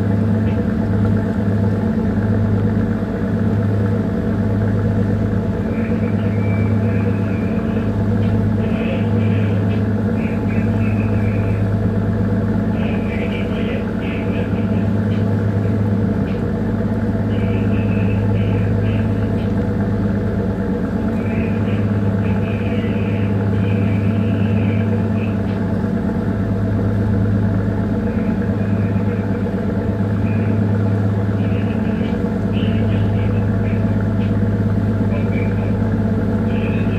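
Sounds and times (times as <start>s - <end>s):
diesel engine drone: 0.0s - 36.9s.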